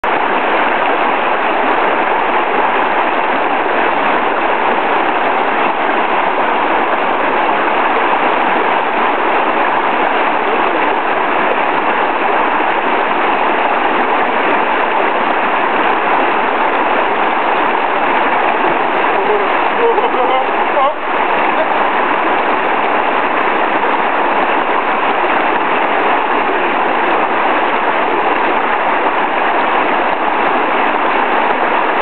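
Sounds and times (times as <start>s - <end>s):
brook rushing over rocks: 0.0s - 32.0s.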